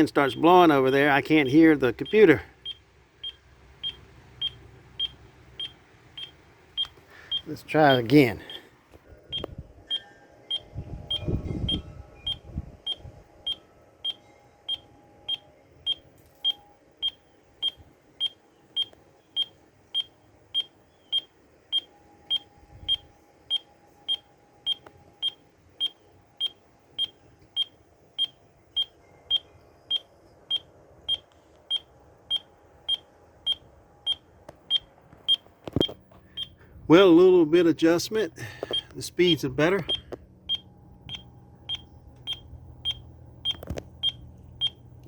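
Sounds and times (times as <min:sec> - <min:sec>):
short high-pitched beeps: 0:02.0 - 0:07.5, 0:09.3 - 0:36.6, 0:39.8 - 0:44.8.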